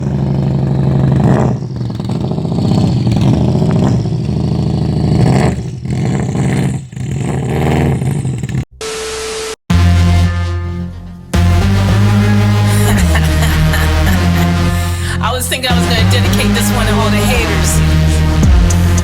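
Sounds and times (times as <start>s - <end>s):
car engine revving: 0.0s - 8.7s, 9.7s - 19.0s.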